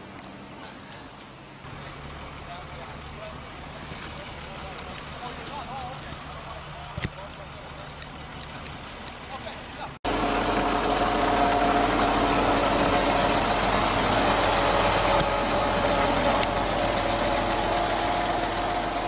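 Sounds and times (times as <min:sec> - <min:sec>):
vehicle engine running: 0:01.6 - 0:19.0.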